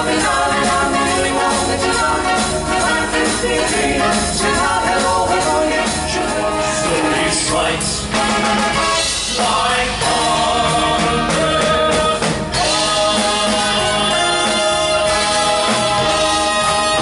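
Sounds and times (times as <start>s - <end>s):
backing band playing: 0.0s - 17.0s
male vocal trio singing: 0.0s - 17.0s.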